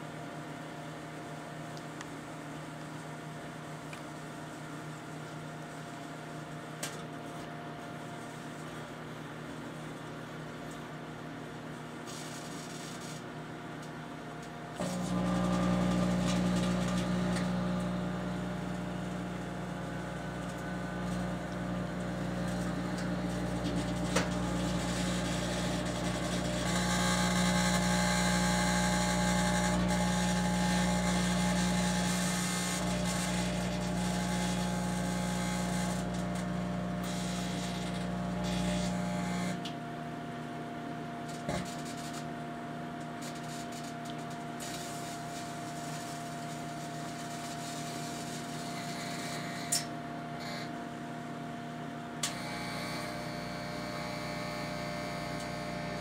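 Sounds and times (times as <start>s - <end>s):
loud mains hum: 0.0s - 56.0s
microwave fan: 0.0s - 56.0s.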